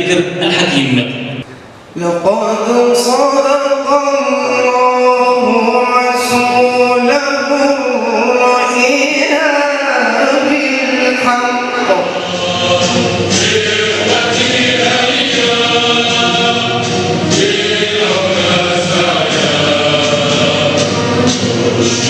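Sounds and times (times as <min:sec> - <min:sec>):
voices singing in chorus: 0:02.6 - 0:22.0.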